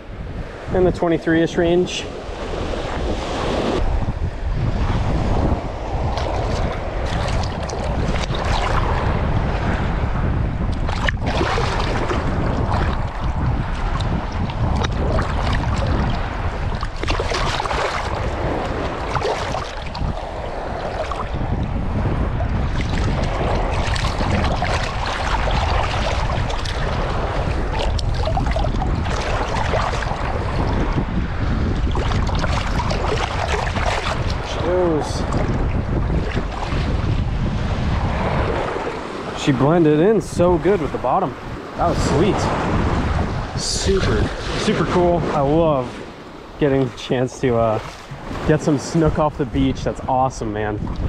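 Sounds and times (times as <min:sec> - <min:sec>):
surf washing over shallow water: 0:00.0 - 0:51.0
wind buffeting microphone: 0:00.0 - 0:51.0
water splashes: 0:04.8 - 0:51.0.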